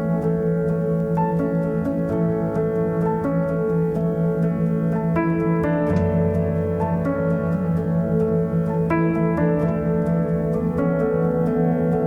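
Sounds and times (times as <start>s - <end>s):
piano notes: 0.0s - 12.0s.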